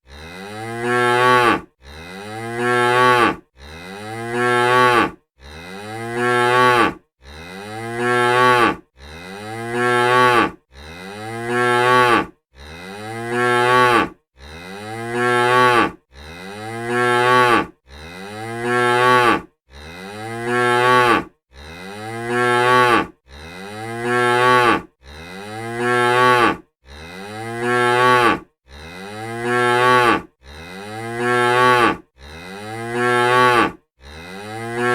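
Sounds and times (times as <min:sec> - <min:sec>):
cow mooing: 0:00.0 - 0:34.9.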